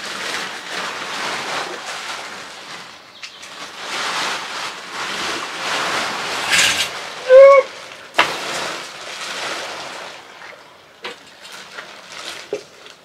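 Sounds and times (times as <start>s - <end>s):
plastic sheet rustling and crinkling: 0.0s - 10.3s, 11.0s - 13.0s.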